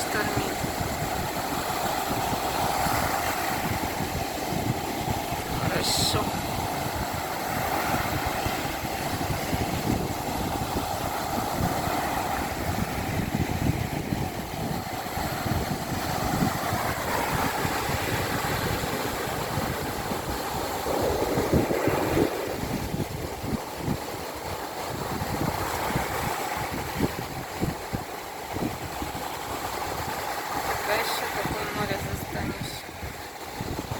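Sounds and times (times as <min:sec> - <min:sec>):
sea waves breaking: 0:00.0 - 0:33.9
wind buffeting microphone: 0:00.0 - 0:33.9.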